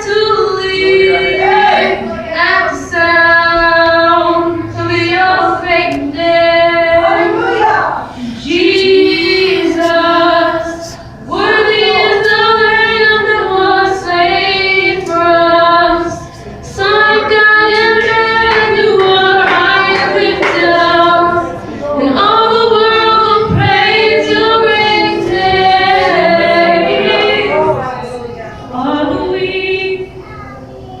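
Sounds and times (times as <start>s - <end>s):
women singing worship song: 0.0s - 30.2s.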